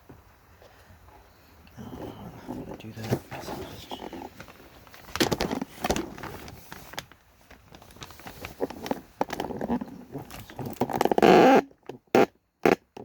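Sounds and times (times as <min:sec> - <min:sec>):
handling knocks and rustling: 0:00.0 - 0:11.2.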